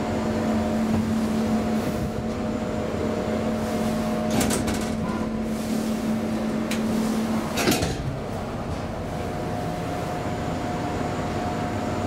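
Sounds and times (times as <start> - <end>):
elevator drive humming: 0.0 - 12.0.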